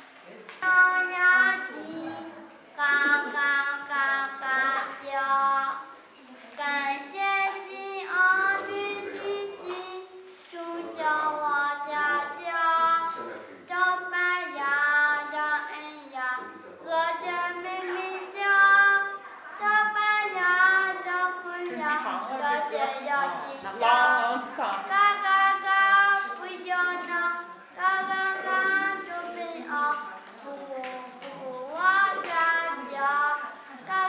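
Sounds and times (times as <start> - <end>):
girl singing: 0.6 - 24.2, 24.9 - 34.0.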